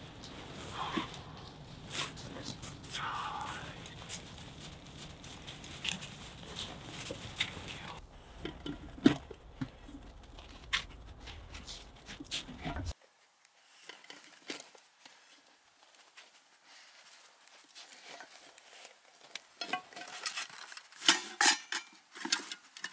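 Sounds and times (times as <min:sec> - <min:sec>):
camping gear clicks and rustles: 0:00.0 - 0:22.9.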